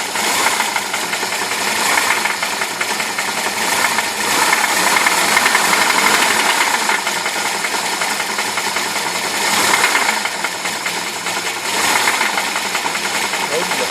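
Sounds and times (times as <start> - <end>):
engine running with metallic knock: 0.0 - 13.9.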